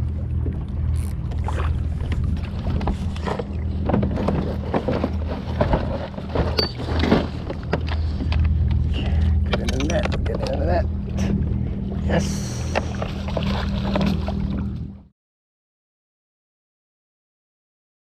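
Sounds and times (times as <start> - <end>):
water splashing at boat side: 0.0 - 15.0
wind rumble on microphone: 0.0 - 15.0.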